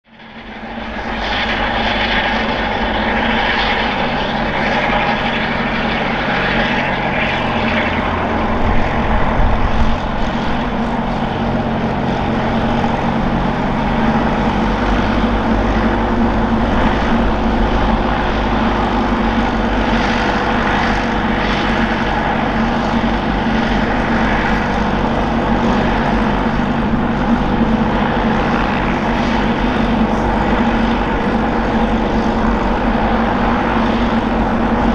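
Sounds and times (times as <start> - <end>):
helicopter engine running: 0.1 - 34.9
helicopter rotors turning: 0.2 - 34.9.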